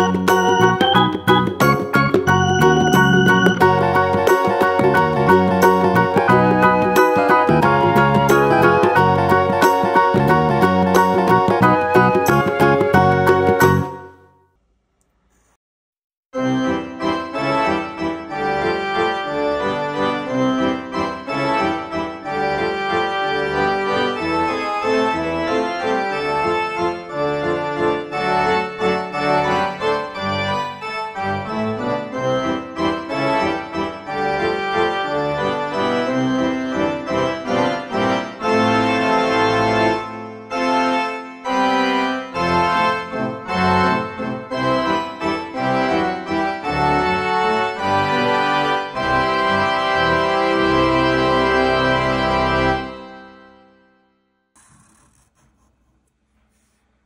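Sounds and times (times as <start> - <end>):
keyboard background music: 0.0 - 14.4, 16.4 - 54.2.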